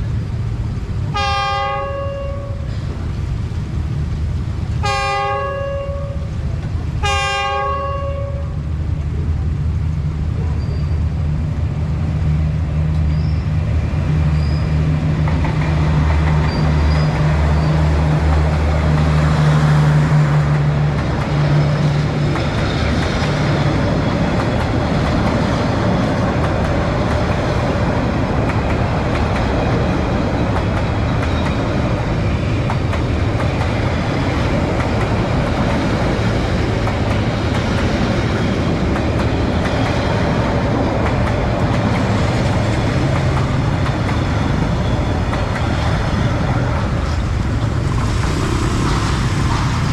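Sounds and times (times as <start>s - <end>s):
diesel locomotive engine drone: 0.0s - 49.9s
train wagons rumbling on rails: 0.0s - 49.9s.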